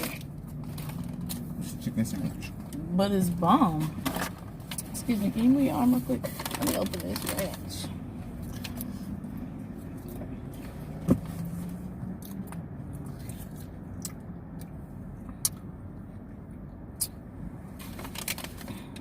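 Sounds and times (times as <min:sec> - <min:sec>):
car cabin hum: 0:00.0 - 0:19.0.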